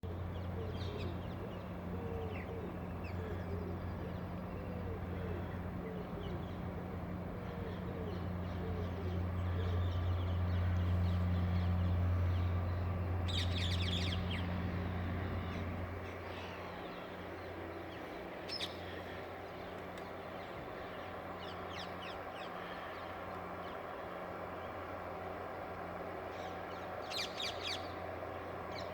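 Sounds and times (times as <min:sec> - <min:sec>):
boat engine humming: 0:00.0 - 0:28.9.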